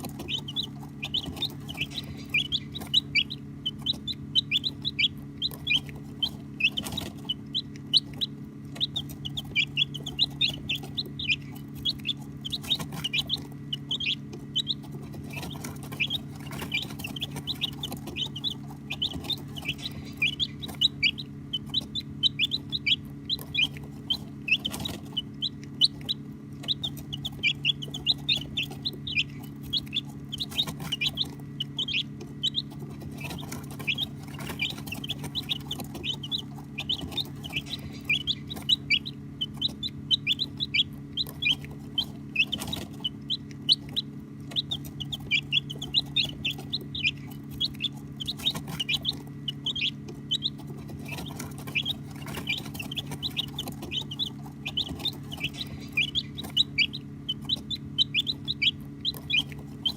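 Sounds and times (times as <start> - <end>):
baby chicks chirping: 0.0 - 59.9
steady low hum: 0.0 - 59.9.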